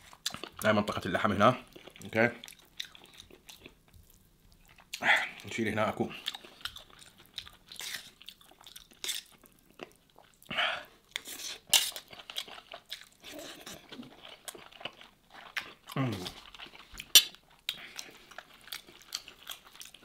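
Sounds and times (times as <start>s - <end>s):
chewing and lip-smacking: 0.0s - 0.7s, 1.6s - 5.5s, 6.1s - 20.0s.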